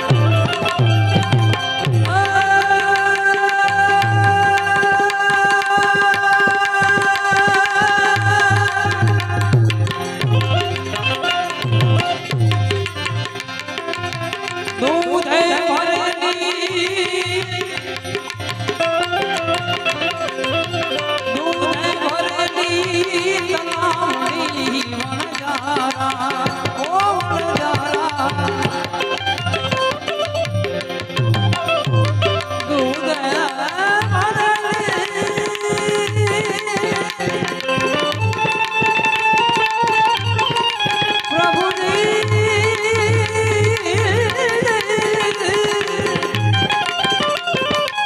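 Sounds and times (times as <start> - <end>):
tabla rhythm: 0.0 - 48.0.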